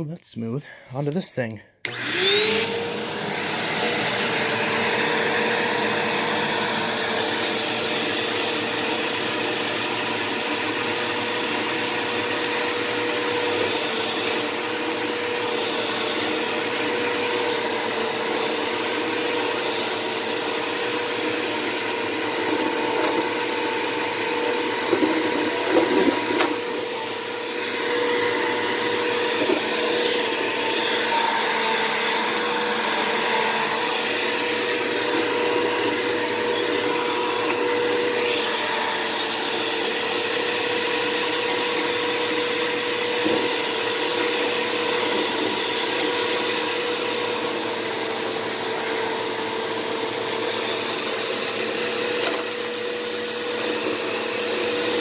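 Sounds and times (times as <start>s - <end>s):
vacuum cleaner running: 1.8s - 55.0s.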